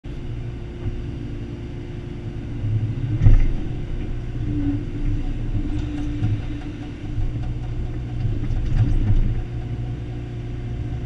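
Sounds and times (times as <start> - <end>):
excavator diesel engine running: 0.1 - 11.0.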